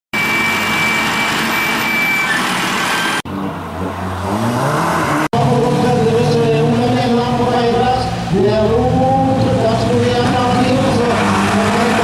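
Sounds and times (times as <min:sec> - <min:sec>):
race car engines: 0:00.2 - 0:12.0
engine revving up: 0:02.3 - 0:12.0.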